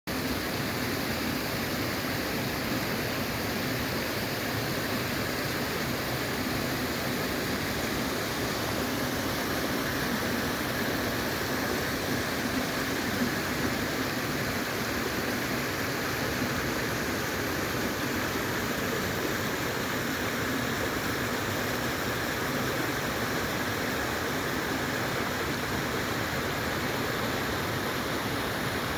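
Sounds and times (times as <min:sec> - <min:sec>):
stream water rushing over rocks: 0:00.1 - 0:28.9.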